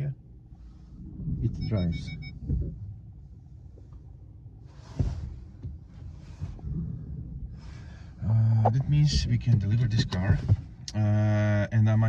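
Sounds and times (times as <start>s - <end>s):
low rumble inside car cabin: 0.0s - 12.0s.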